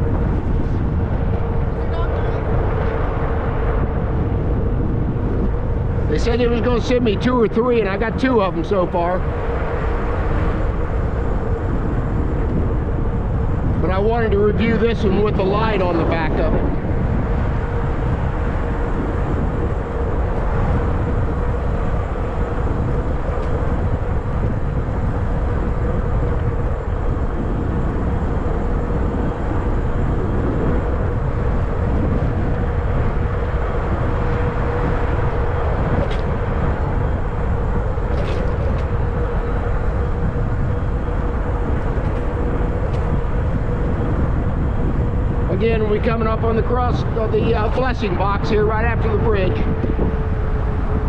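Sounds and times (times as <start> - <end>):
e-bike rolling noise: 0.0 - 51.0
steady hum: 0.0 - 51.0
wind rumble on microphone: 0.0 - 51.0.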